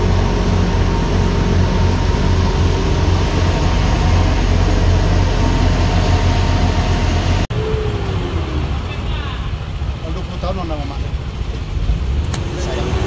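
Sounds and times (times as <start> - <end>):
truck diesel engines labouring: 0.0 - 13.0.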